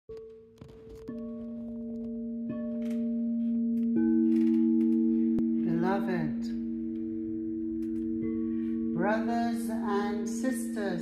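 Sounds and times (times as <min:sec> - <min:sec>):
crystal singing bowls ringing: 0:01.0 - 0:11.0.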